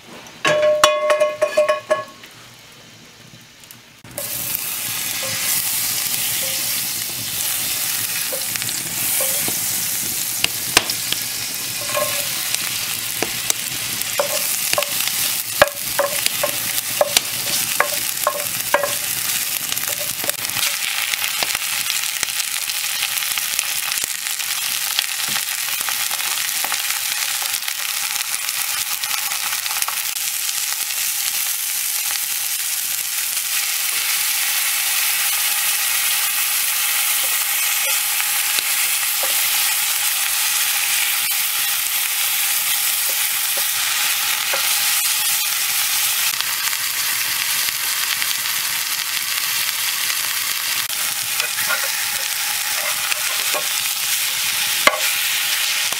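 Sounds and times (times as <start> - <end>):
meat sizzling in a skillet: 3.4 - 55.9.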